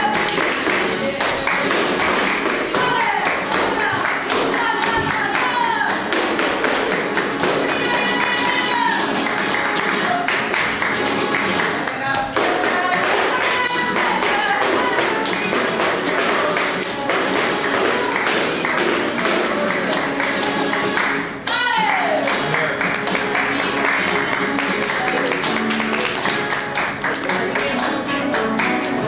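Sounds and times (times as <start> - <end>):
person singing: 0.0 - 6.1, 7.4 - 10.5, 11.6 - 29.0
flamenco guitar playing: 0.0 - 29.0
rhythmic hand-clapping: 0.0 - 29.0.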